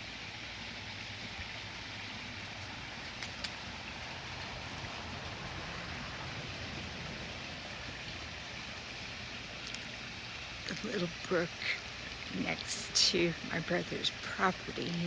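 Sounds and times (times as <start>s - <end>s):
brook flowing water: 0.0s - 15.0s.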